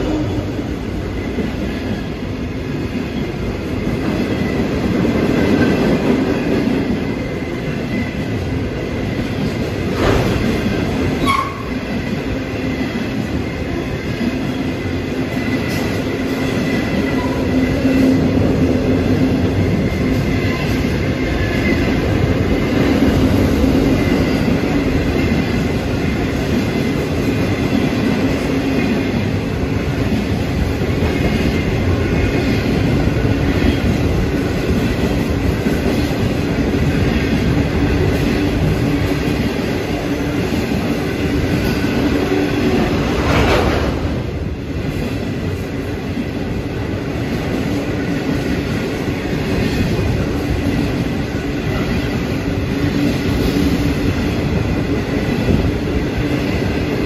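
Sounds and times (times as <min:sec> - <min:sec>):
freight train wheels clattering: 0:00.0 - 0:57.0.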